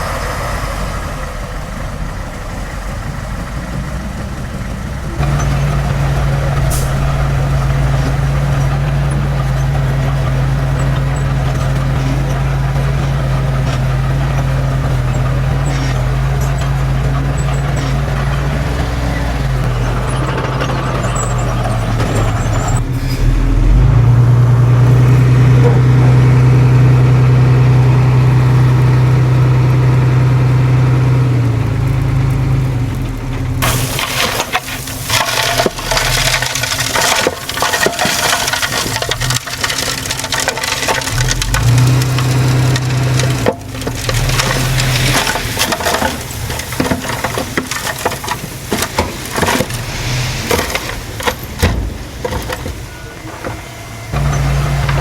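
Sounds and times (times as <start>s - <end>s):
heavy diesel engine under load: 0.0s - 55.0s
soil crunching and rushing: 0.0s - 55.0s.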